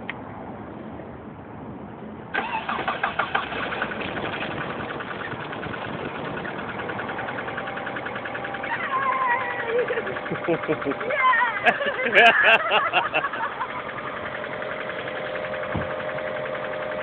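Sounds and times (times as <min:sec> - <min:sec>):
car engine starting and running: 0:02.3 - 0:17.0.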